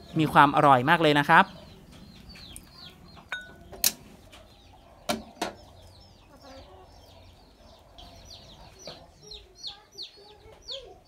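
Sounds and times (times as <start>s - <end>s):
chickens cheeping: 0.0s - 11.0s.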